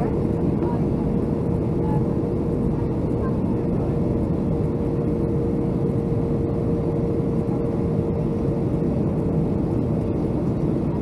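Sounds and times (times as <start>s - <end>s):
airplane engines rumbling: 0.0s - 11.0s.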